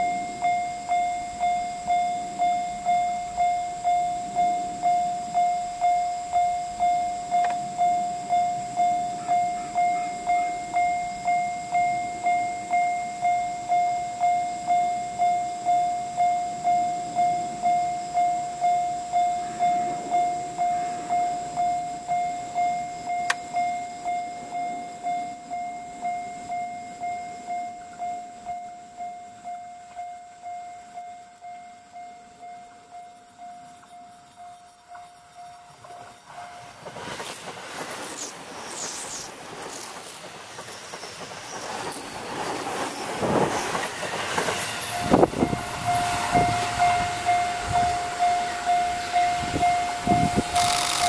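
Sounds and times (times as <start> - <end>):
level crossing alarm bell: 0.0 - 36.8, 43.2 - 51.0
faint train rumble: 0.0 - 51.0.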